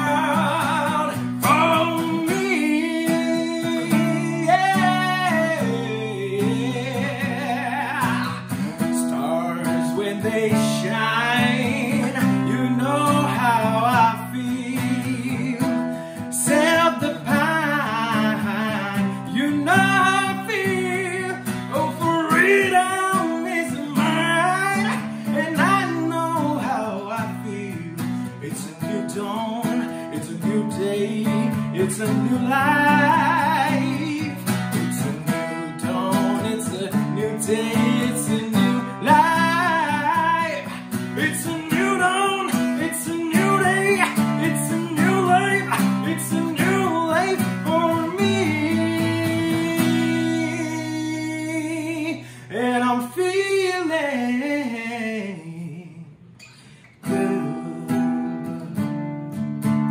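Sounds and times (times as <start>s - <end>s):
man singing: 0.0s - 59.0s
strummed acoustic guitar: 0.0s - 59.9s.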